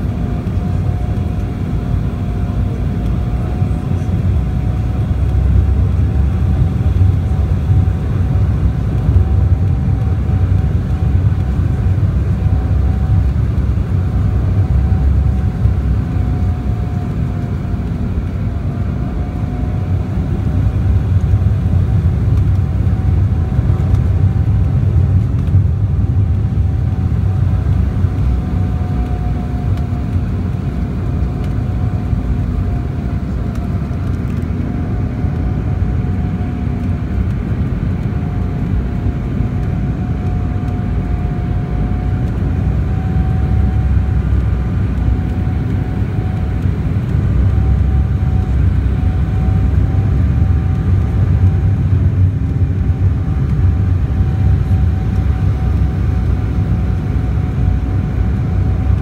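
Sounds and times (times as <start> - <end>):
jet cabin rumble: 0.0 - 59.0.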